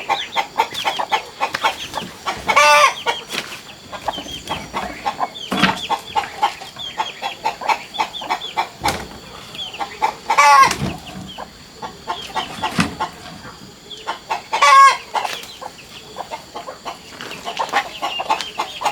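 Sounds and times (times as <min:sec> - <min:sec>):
chicken squawks: 0:00.0 - 0:15.5
chickens clucking: 0:00.0 - 0:18.9.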